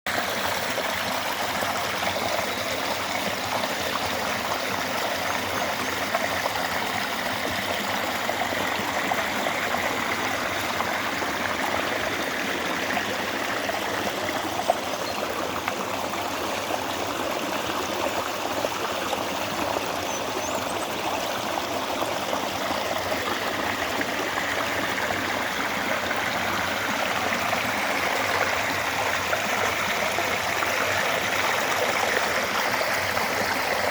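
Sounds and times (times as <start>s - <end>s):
stream rushing and trickling: 0.1s - 33.9s.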